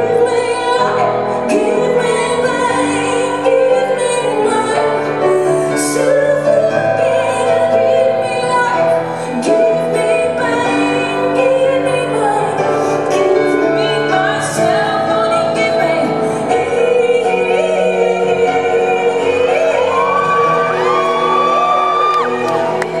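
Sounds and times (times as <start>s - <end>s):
piano accompaniment: 0.0s - 23.0s.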